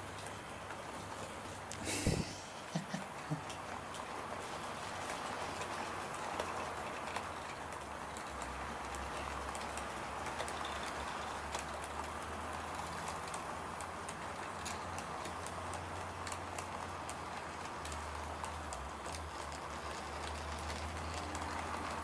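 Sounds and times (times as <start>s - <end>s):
light clicks of wheels on rails: 0.0s - 1.8s, 2.7s - 22.0s.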